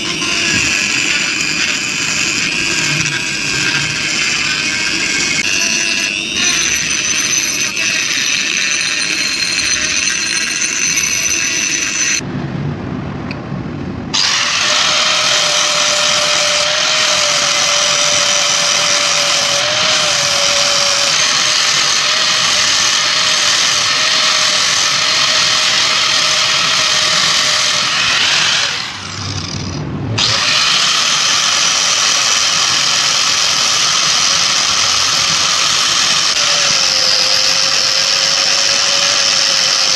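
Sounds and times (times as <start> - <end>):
angle grinder grinding steel: 0.0 - 12.2, 14.2 - 39.9
rotary tool polishing steel: 0.0 - 12.2, 14.2 - 39.9.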